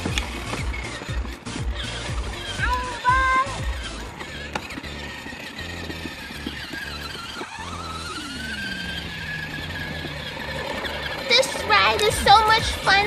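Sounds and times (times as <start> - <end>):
toy motorcycle motor whine: 0.0 - 13.0.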